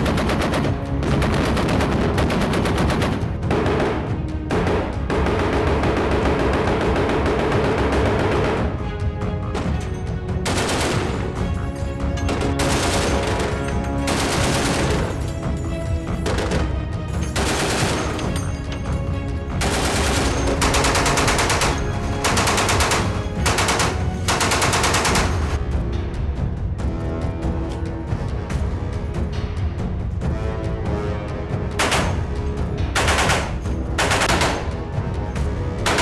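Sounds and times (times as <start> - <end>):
music: 0.0 - 36.0.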